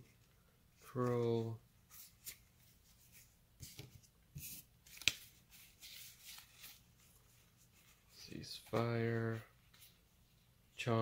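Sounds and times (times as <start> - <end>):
cards rustling and clicking: 0.1 - 7.2, 8.0 - 10.0.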